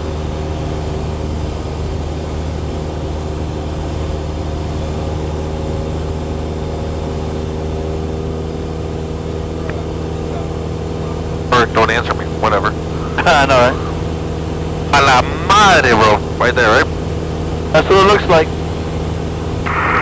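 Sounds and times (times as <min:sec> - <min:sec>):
airplane engine drone in cabin: 0:00.0 - 0:20.0.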